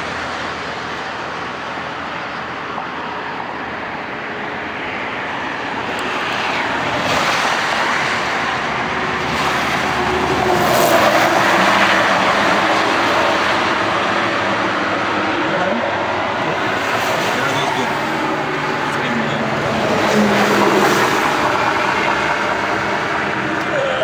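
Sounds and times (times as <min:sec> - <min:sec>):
highway traffic passing: 0:00.0 - 0:24.0.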